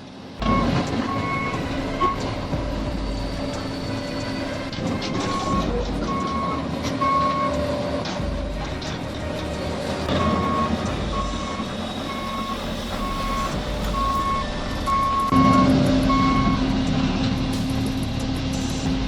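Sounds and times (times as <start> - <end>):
diesel engine: 0.0 - 19.0
reversing alarm beeping: 0.4 - 17.2.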